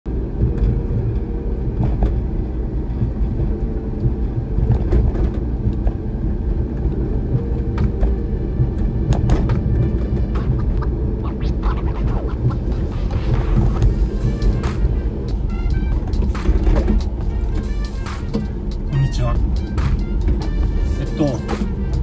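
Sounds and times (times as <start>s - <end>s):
car engine and road rumble: 0.1s - 22.0s.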